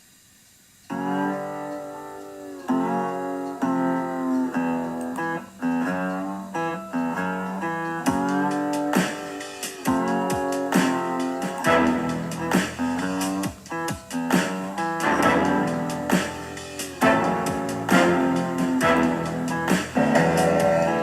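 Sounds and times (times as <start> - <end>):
guitar strumming chords: 0.9 - 21.0.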